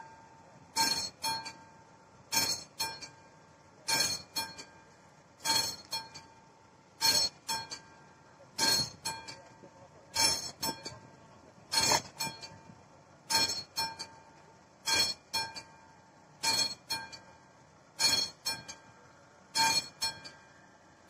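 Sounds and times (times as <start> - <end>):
level crossing warning bell: 0.0 - 20.6.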